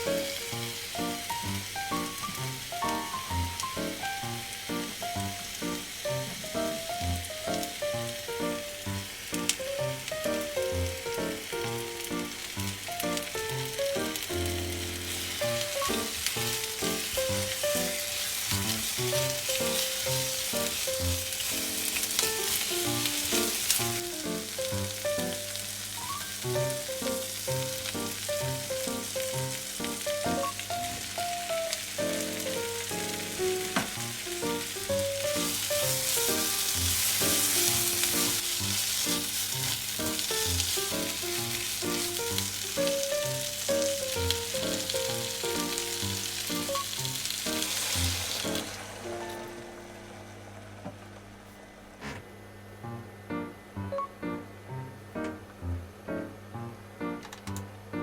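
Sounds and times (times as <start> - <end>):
light background music: 0.0 - 50.1, 52.8 - 58.0
food sizzling in a pan: 0.0 - 50.3.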